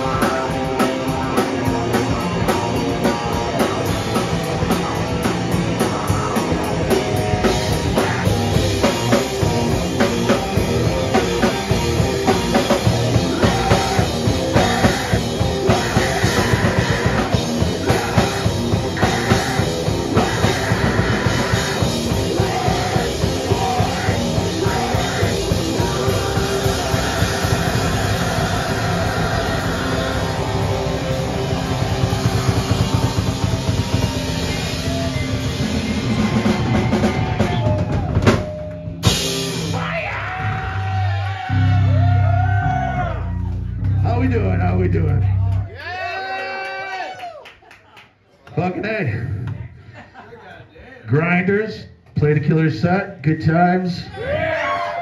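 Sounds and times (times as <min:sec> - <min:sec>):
heavy punk band playing: 0:00.0 - 0:45.7.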